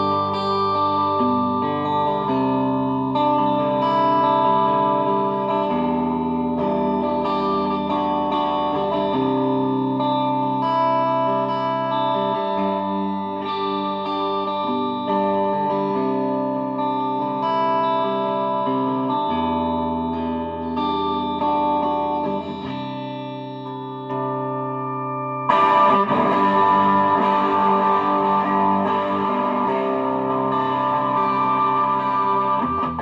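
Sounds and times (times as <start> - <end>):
electric guitar chords: 0.0 - 33.0.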